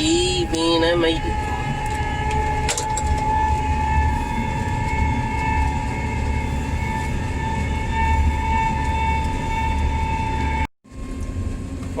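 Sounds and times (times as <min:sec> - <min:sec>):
engine rumble with whine: 0:00.0 - 0:12.0.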